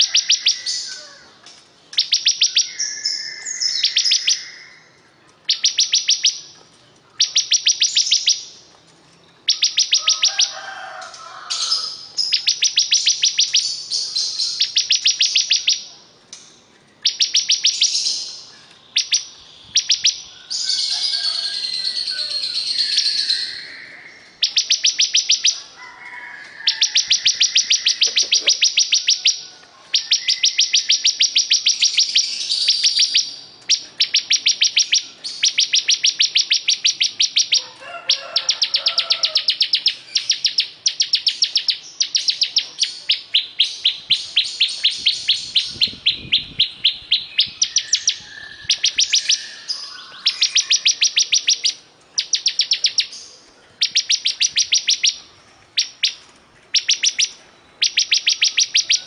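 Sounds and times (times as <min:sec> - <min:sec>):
bird singing rattling trills: 0:01.9 - 0:06.6, 0:07.2 - 0:08.6, 0:09.3 - 0:23.8, 0:26.7 - 0:29.4, 0:30.0 - 0:37.6, 0:38.4 - 0:55.2, 0:55.8 - 0:59.0.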